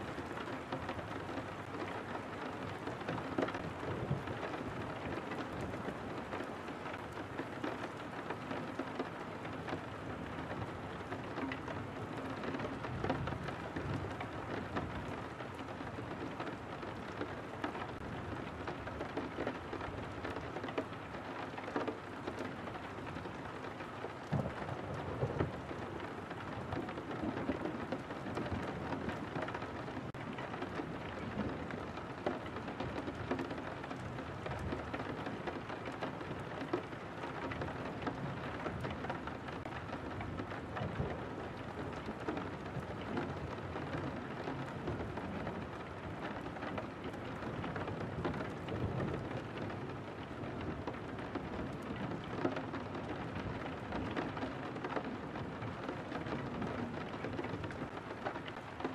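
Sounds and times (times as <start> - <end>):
rain drops ticking on window glass: 0.0 - 58.9.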